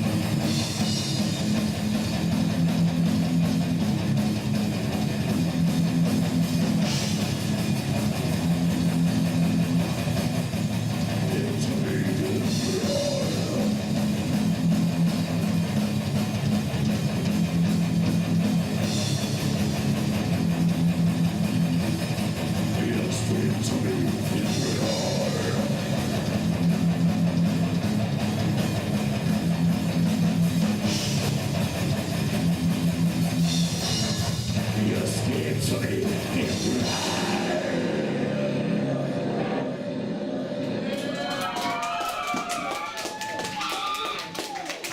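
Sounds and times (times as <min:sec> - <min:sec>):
drum kit: 0:00.0 - 0:39.4
distorted electric guitar: 0:00.0 - 0:41.4.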